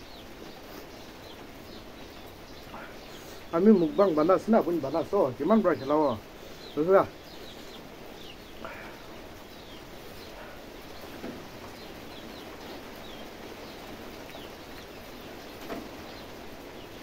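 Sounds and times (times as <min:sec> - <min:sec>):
small birds chirping: 0:00.0 - 0:17.0
steady hiss: 0:00.0 - 0:17.0.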